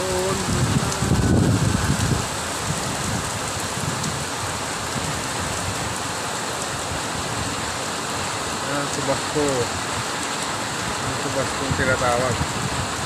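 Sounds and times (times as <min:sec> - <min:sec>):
heavy rain in strong wind: 0:00.0 - 0:13.0.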